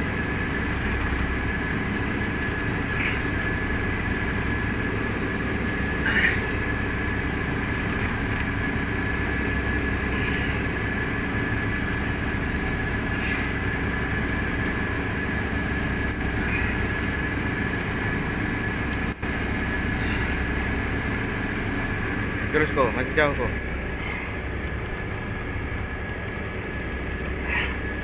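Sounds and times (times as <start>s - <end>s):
boat engine idling: 0.0s - 28.0s
thin steady whine: 0.0s - 28.0s.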